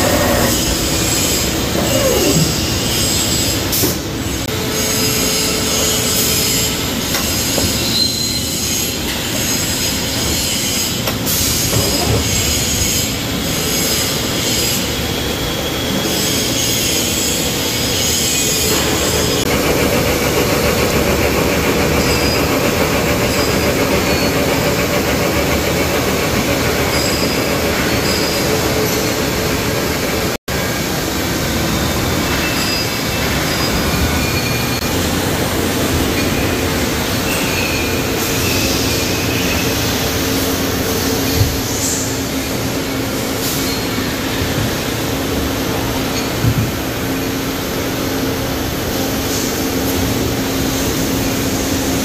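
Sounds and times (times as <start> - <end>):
machine milling metal: 0.0 - 44.3.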